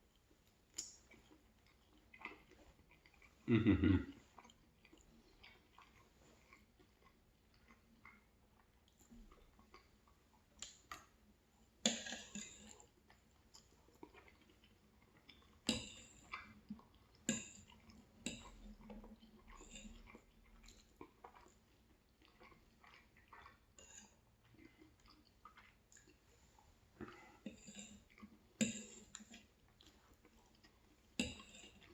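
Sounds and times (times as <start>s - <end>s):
person chewing food: 0.1s - 31.9s.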